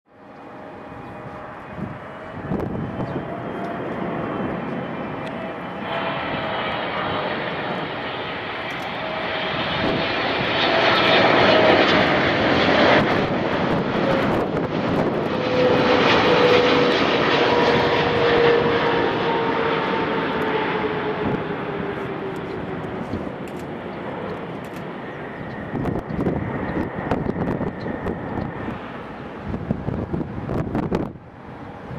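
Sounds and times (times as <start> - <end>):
jet engines of landing airliner: 0.1 - 31.9.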